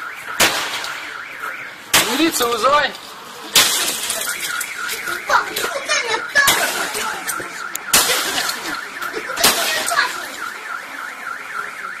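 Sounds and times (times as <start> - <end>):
loud bangs: 0.0 - 2.7, 3.5 - 10.7
car alarm warbling: 0.0 - 3.0, 3.6 - 12.0.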